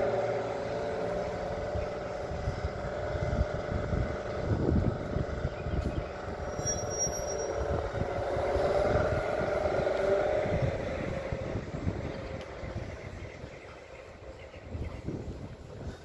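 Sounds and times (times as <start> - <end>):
heavy truck engine running: 0.0 - 14.3.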